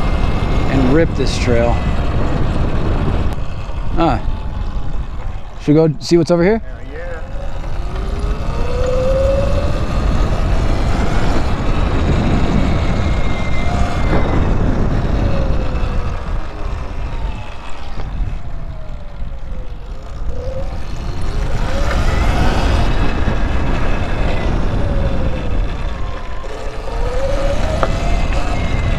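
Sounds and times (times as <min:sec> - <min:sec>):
electric motorbike motor whining: 0:00.0 - 0:28.9
wind rumble on microphone: 0:00.0 - 0:28.9.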